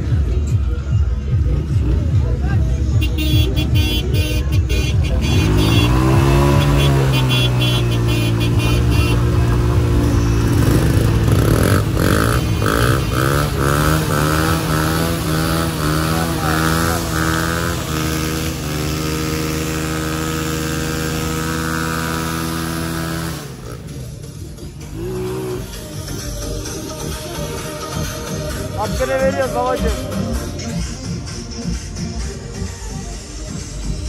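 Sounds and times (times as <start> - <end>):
vehicle engine revving: 0.0 - 34.0.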